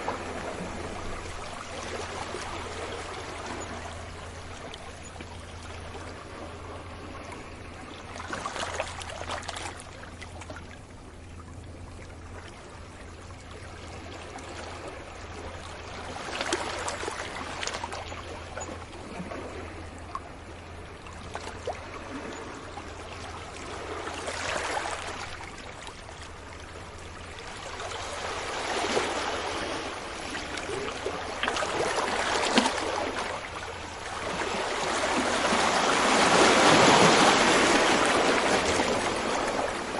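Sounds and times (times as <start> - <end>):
sea waves breaking on beach: 0.0 - 10.5, 13.7 - 39.9.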